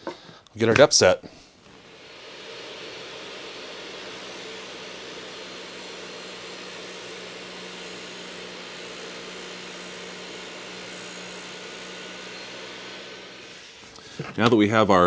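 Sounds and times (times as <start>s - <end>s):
table saw whirring: 1.6s - 14.6s.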